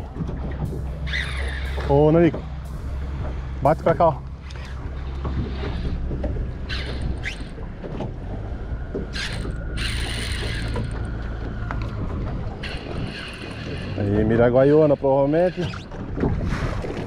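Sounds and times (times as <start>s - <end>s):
boat motor hum: 0.0s - 17.0s
water splashing: 0.0s - 17.0s
water washing against hull: 0.0s - 17.0s.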